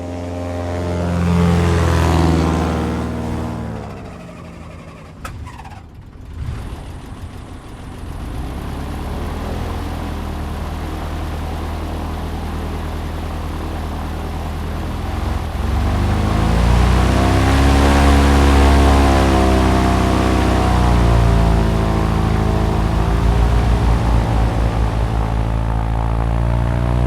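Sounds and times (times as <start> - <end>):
airboat engine and propeller: 0.0 - 27.0.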